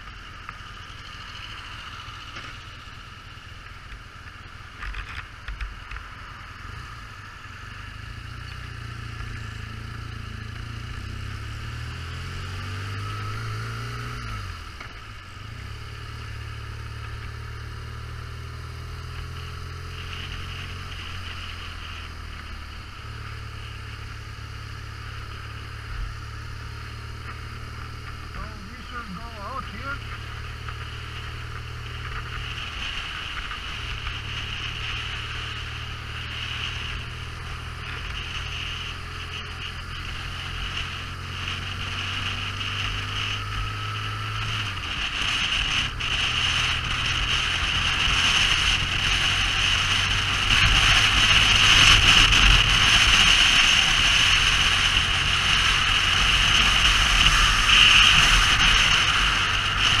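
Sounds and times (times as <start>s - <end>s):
motorcycle engine: 0.0s - 60.0s
wind and road noise: 0.0s - 60.0s.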